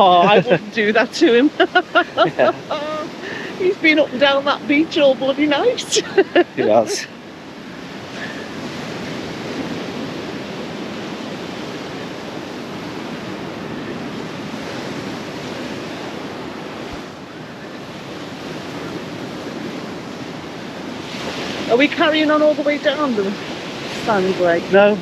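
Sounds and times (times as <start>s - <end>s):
sea surf washing onto sand: 0.0s - 25.0s.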